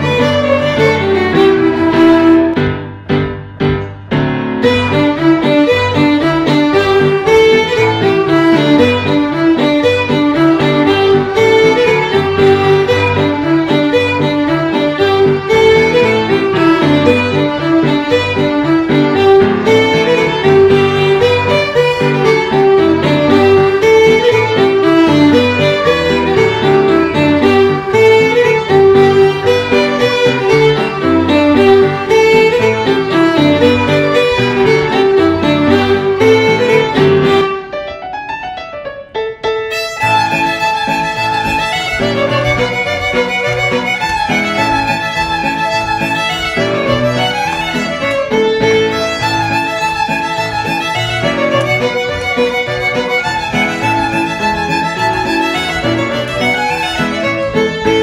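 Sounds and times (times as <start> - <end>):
fiddles playing a tune: 0.0 - 2.6, 4.5 - 37.8, 39.7 - 58.0.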